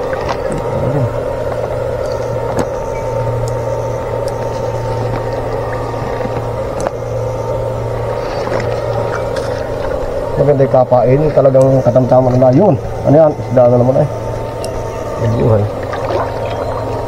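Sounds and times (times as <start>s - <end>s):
electric hum of fishing shocker: 0.0s - 17.0s.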